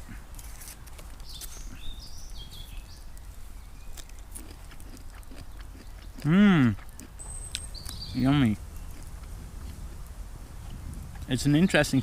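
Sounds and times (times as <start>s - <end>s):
bird chirping: 0.0s - 6.2s, 6.8s - 12.0s.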